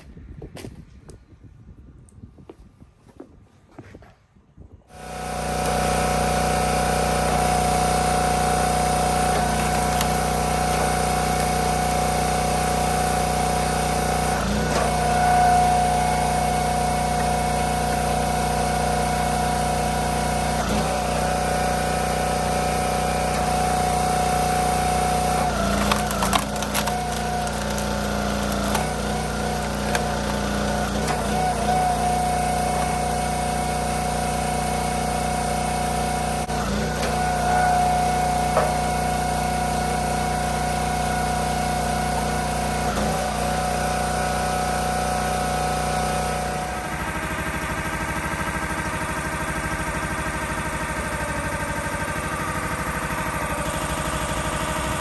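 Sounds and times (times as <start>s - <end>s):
chainsaw cutting wood: 4.9s - 55.0s.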